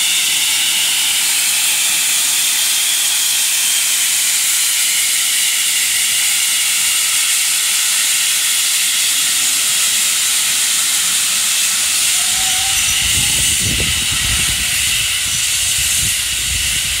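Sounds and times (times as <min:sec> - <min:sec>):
steam hissing loudly: 0:00.0 - 0:17.0.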